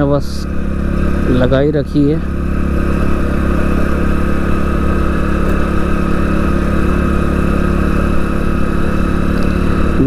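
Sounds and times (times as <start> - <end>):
motorcycle engine under load: 0.0 - 10.0.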